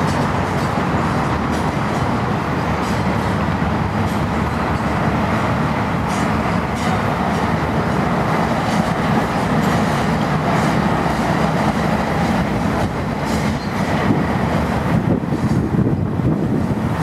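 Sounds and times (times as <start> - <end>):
rail joint clacks: 0.0 - 17.0
train wheels rumbling on rails: 0.0 - 17.0.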